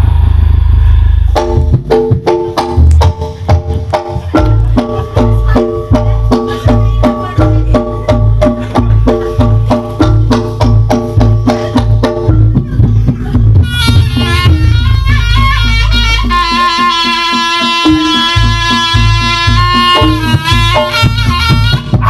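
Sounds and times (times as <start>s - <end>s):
drums with deep heavy beat: 0.0s - 22.0s
tuned percussion strikes: 1.3s - 22.0s.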